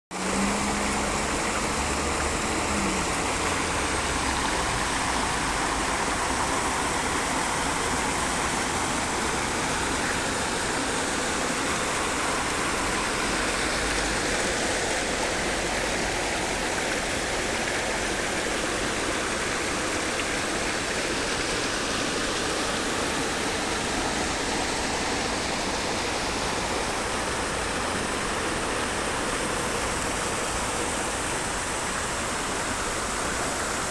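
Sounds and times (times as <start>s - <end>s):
rain falling: 0.1s - 33.9s.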